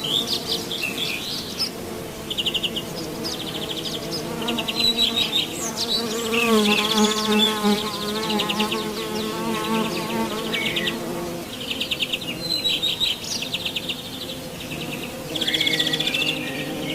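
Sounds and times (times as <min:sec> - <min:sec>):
beetle buzzing in flight: 0:00.0 - 0:16.9.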